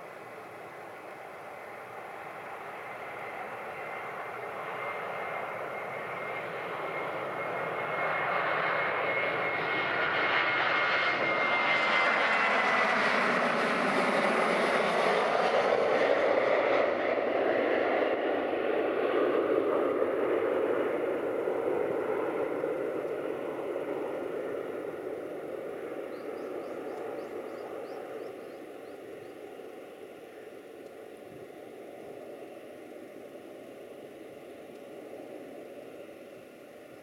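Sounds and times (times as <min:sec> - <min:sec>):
jet engines at takeoff: 0:00.0 - 0:37.0.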